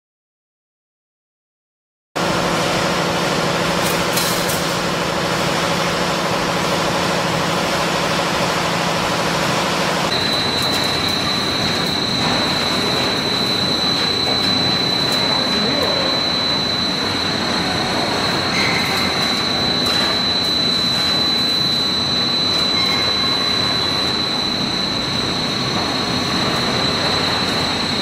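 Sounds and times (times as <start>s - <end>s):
factory machinery running: 2.2s - 28.0s
high whine: 2.2s - 28.0s.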